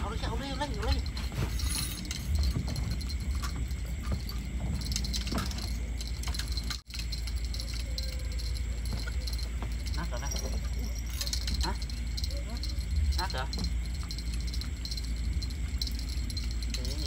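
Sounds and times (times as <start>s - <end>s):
metallic rattles: 0.0s - 17.0s
steady low rumble: 0.0s - 17.0s.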